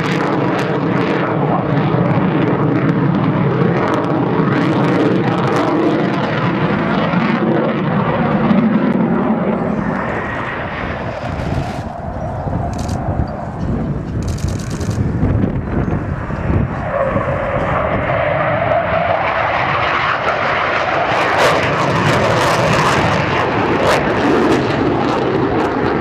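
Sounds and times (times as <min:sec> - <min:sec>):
jet aircraft flying overhead: 0:00.0 - 0:26.0.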